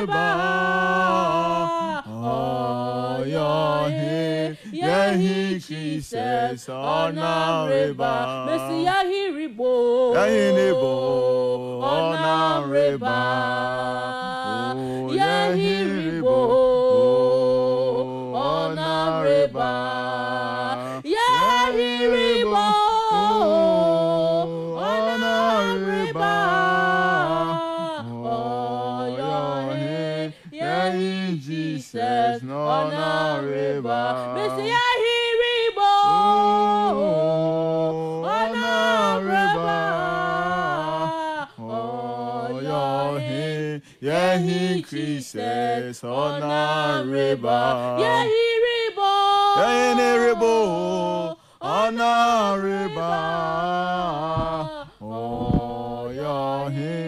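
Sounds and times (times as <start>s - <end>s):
woman and man singing unaccompanied: 0.0s - 57.0s.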